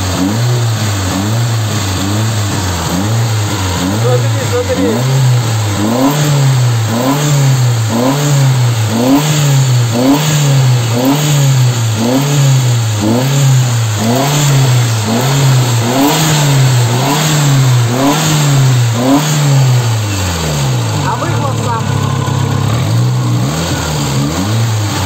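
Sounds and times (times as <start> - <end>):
turbocharged car engine revving: 0.0 - 25.0.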